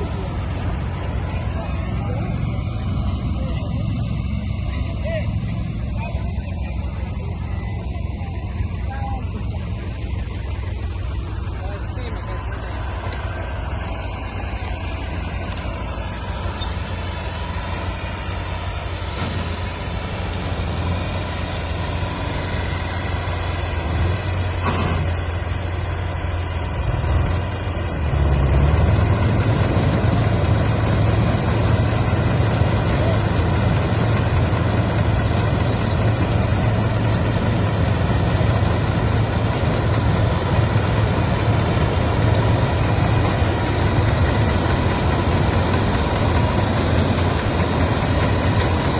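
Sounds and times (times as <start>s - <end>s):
combine harvester engine running: 0.0s - 48.9s.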